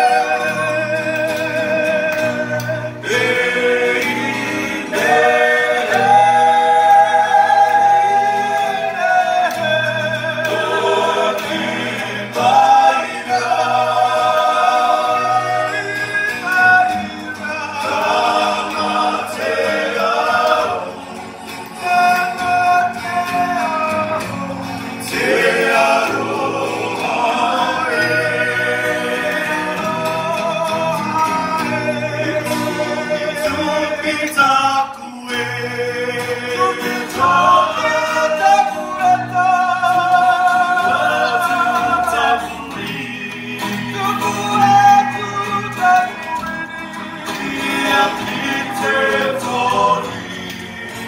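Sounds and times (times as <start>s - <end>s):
men singing in harmony: 0.0s - 51.0s
strummed acoustic guitars: 0.0s - 51.0s.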